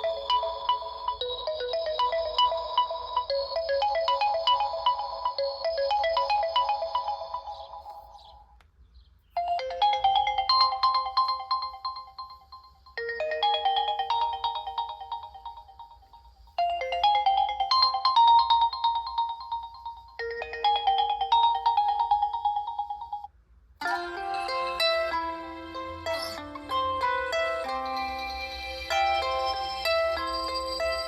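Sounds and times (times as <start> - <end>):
smartphone ringtone melody: 0.0 - 8.5, 9.4 - 31.0.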